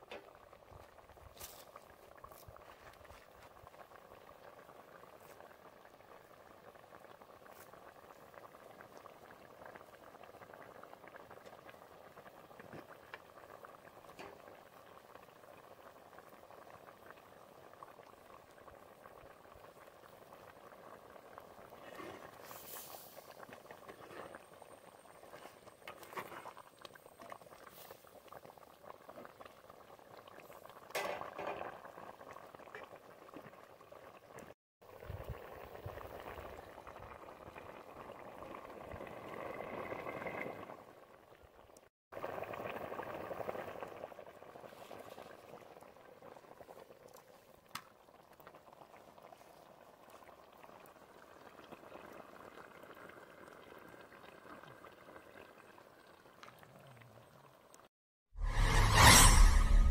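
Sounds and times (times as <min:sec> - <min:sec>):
curry bubbling in pot: 0:00.0 - 0:57.9.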